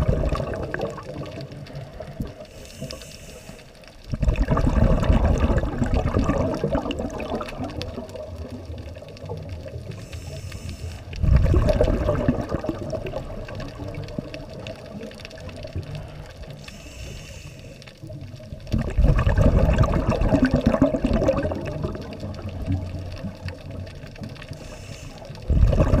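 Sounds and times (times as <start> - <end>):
exhaled bubbles surging underwater: 0.0 - 3.0, 4.0 - 16.7, 17.9 - 26.0
regulator hiss and bubbling: 0.0 - 26.0.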